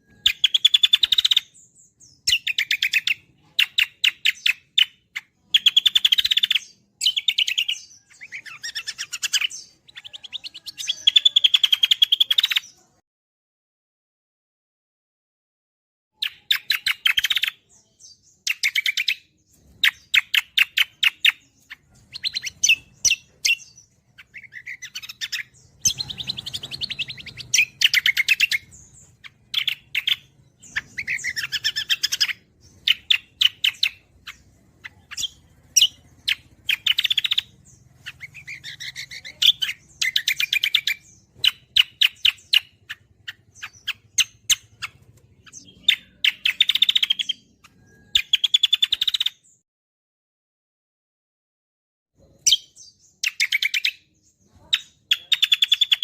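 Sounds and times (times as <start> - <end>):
songbird chattering song: 0.0 - 13.0, 16.2 - 49.6, 52.2 - 56.0.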